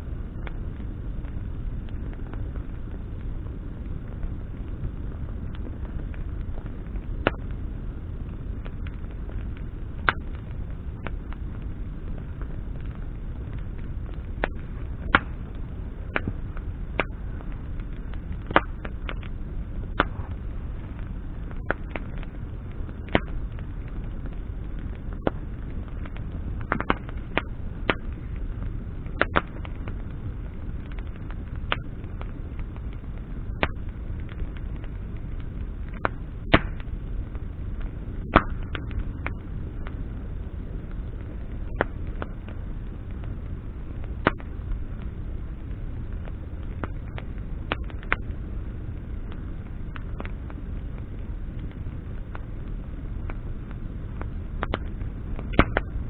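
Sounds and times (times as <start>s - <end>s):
campfire crackling and popping: 0.0s - 56.0s
low rumble: 0.0s - 56.0s.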